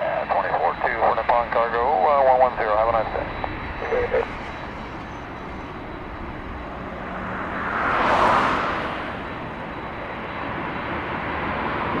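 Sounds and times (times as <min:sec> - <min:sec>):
jet engine rush: 0:00.0 - 0:12.0.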